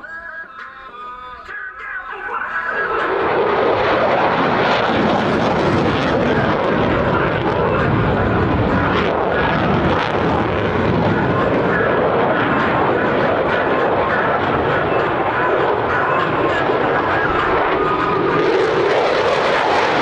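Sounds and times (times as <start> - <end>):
fighter jet engine roar: 2.3 - 20.0.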